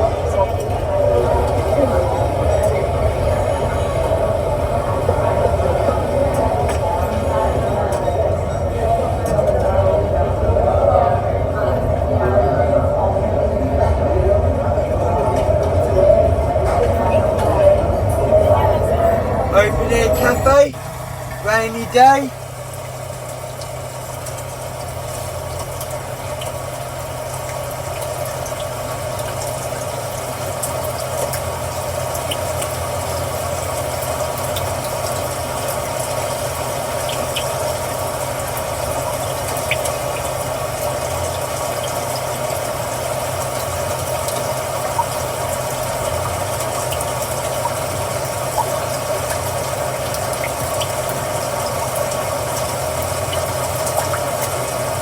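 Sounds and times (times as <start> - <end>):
engine idling hum: 0.0 - 55.0
recorded rain hiss from speakers: 0.0 - 55.0.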